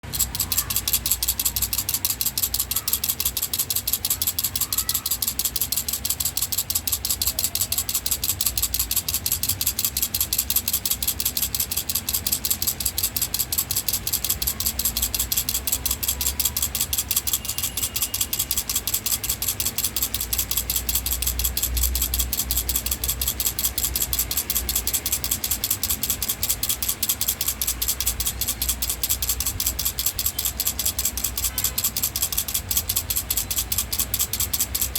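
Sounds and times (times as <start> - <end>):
baby rattle shaking: 0.0 - 34.9.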